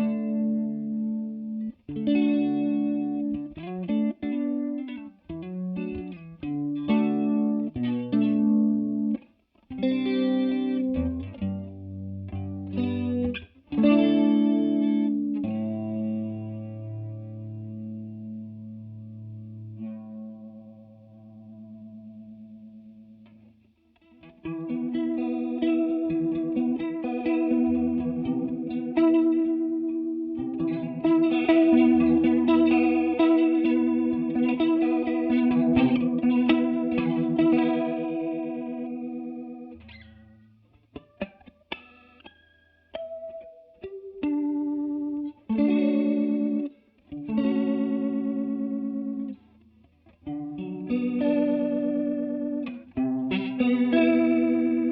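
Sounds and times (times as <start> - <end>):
electric guitar chords with chorus: 0.0 - 54.9.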